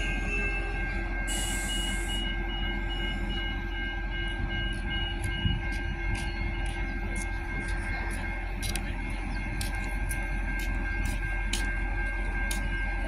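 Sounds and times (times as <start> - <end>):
diesel railcar engine idling: 0.0 - 13.0
electronic beep pulsing: 0.0 - 13.0.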